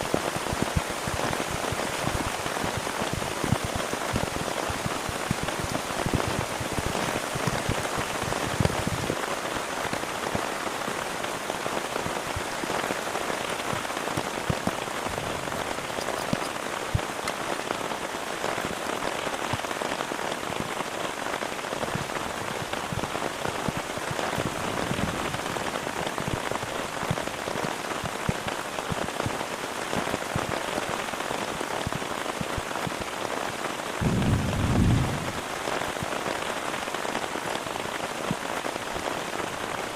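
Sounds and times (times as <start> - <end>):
heavy rain falling: 0.0 - 39.9
raindrops hitting a surface: 0.0 - 39.9.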